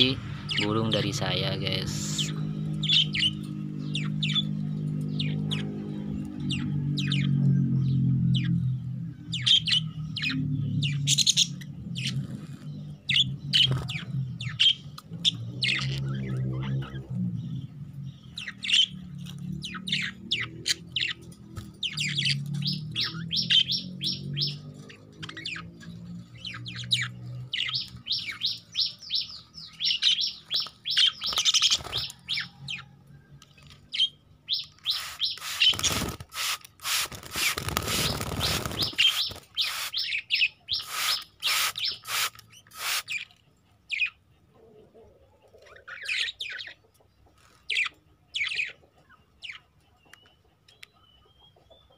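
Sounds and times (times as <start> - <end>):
budgerigars chirping: 0.0 - 32.9, 33.9 - 43.3.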